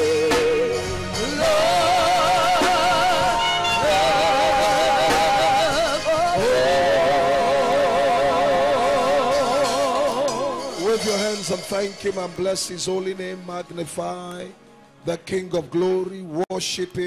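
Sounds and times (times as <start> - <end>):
worship singing with music: 0.0 - 17.0.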